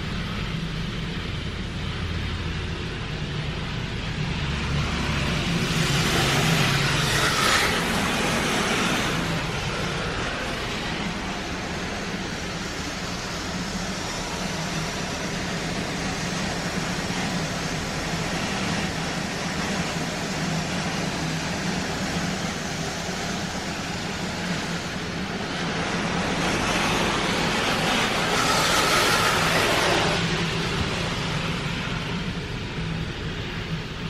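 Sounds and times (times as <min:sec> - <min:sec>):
rushing water spray: 0:00.0 - 0:33.7
car wash machinery humming: 0:00.0 - 0:34.0.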